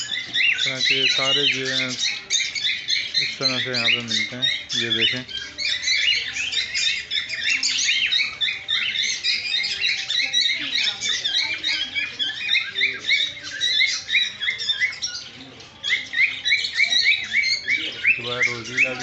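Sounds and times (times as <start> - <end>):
parrots chirping and chattering: 0.0 - 19.0.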